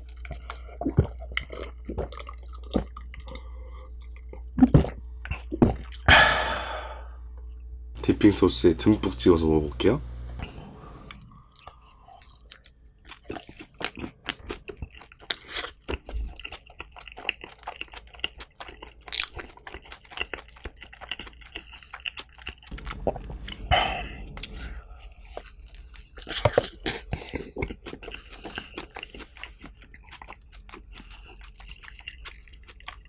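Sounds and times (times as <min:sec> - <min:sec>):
person chewing pizza: 0:00.0 - 0:09.7, 0:10.3 - 0:33.0.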